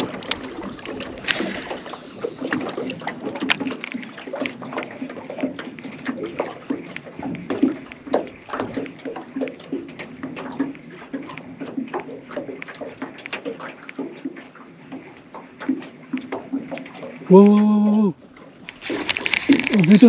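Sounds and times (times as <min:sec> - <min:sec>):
small waves lapping against float tube: 0:00.0 - 0:20.0.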